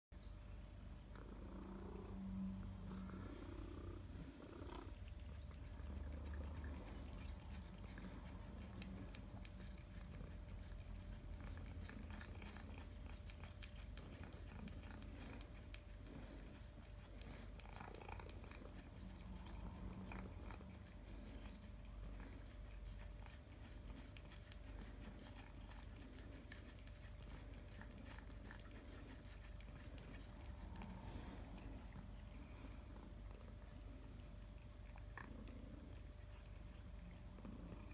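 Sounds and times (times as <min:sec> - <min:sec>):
low steady hum: 0:00.1 - 0:37.9
cats licking wet clicks: 0:04.9 - 0:37.9.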